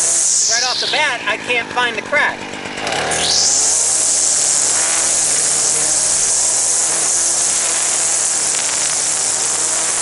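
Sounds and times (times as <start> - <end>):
string trimmer cutting grass: 0.0 - 10.0.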